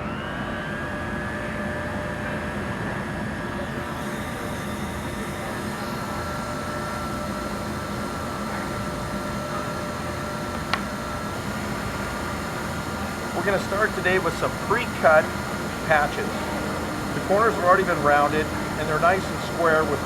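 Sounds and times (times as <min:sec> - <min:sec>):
hot air blower hissing with whine: 0:00.0 - 0:20.0.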